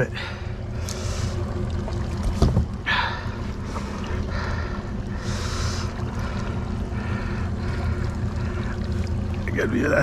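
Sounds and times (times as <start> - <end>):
boat motor humming: 0.0 - 10.0
water rushing: 0.0 - 10.0.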